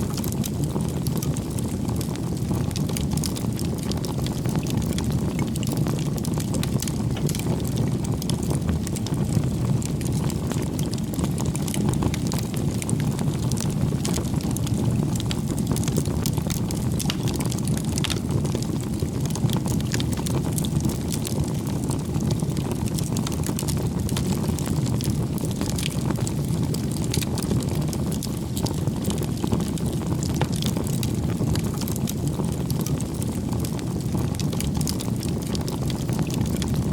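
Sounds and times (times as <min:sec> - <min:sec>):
campfire flames rushing: 0:00.0 - 0:36.9
fire crackling and popping: 0:00.0 - 0:36.9.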